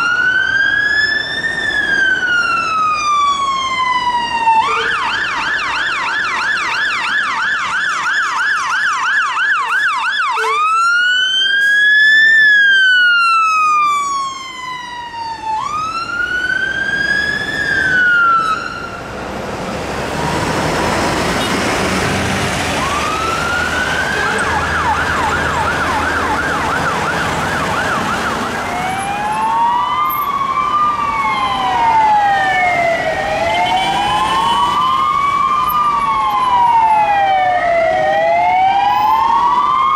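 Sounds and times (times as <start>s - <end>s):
police car siren sweeps: 0.0s - 19.2s, 22.6s - 39.9s
fire engine siren yelp and wail: 0.0s - 39.9s
truck engine and road noise: 0.0s - 39.9s.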